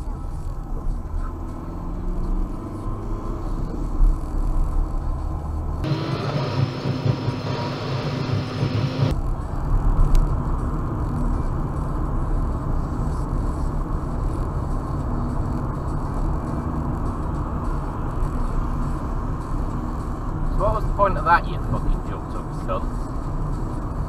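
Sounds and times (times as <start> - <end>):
car engine and tyre road noise: 0.0 - 24.0.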